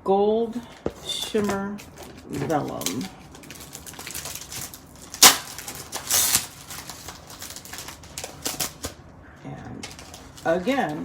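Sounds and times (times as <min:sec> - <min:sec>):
paper rustling: 0:00.6 - 0:09.0, 0:09.8 - 0:11.0.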